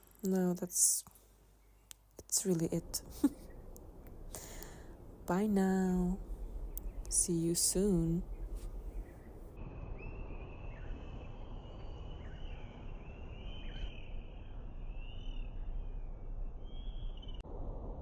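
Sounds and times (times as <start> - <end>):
low outdoor background hum: 0.0 - 18.0
small birds chirping: 1.5 - 17.4.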